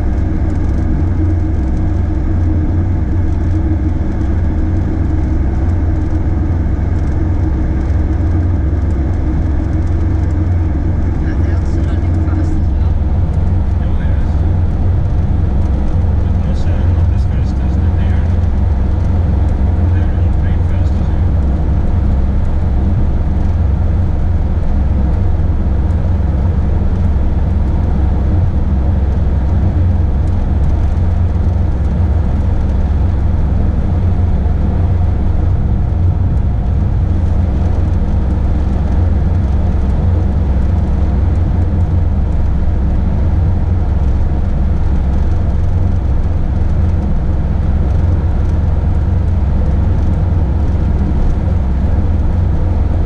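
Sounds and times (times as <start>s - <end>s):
vehicle engine and road rumble: 0.0s - 53.0s.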